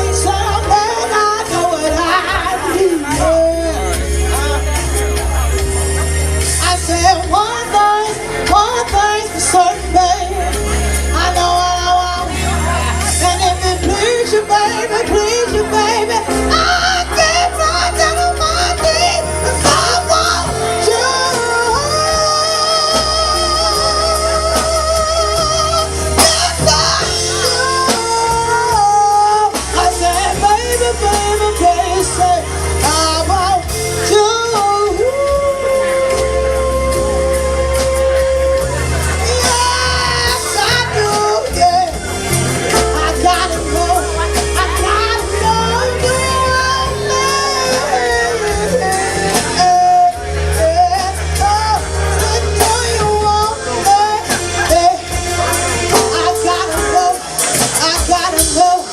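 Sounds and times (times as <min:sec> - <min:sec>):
live band music: 0:00.0 - 0:58.9
person singing with vibrato: 0:00.0 - 0:58.9.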